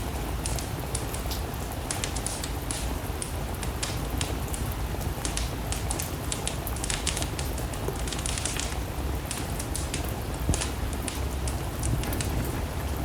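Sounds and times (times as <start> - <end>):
wood fire crackling and popping: 0.2 - 13.0.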